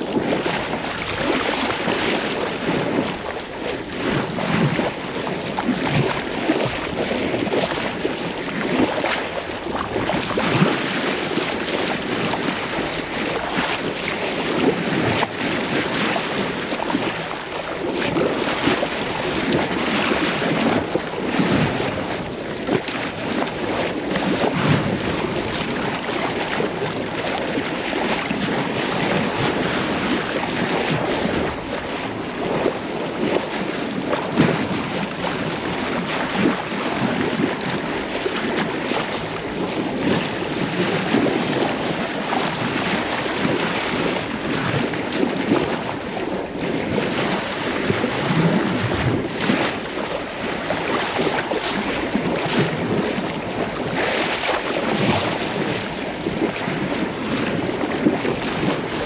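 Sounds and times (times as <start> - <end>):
sea water rushing along hull: 0.0 - 59.0
wind buffeting microphone: 0.0 - 59.0.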